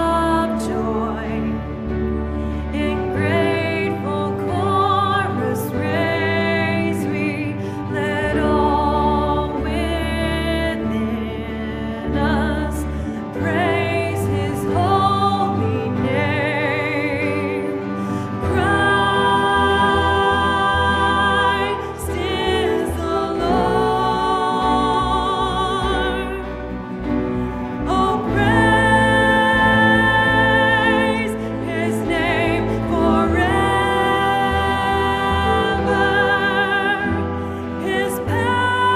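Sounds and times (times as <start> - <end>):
instrumental accompaniment: 0.0 - 38.9
operatic singing with vibrato: 0.0 - 38.9.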